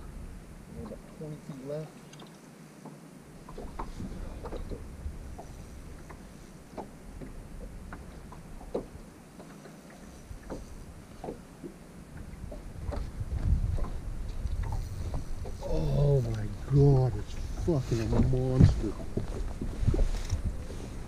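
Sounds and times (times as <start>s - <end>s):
water slapping against boat hull: 2.0s - 21.0s.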